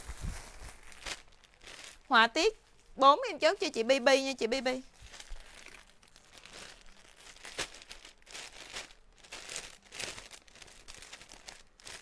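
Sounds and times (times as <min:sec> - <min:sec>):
clothes rustling and crinkling: 0:00.0 - 0:03.0, 0:03.6 - 0:12.0.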